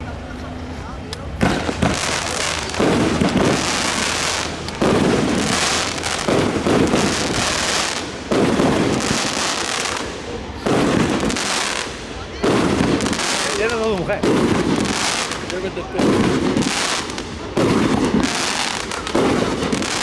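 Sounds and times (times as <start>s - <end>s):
firework bursts: 0.0s - 20.0s
fireworks crackling and rumbling: 0.0s - 20.0s.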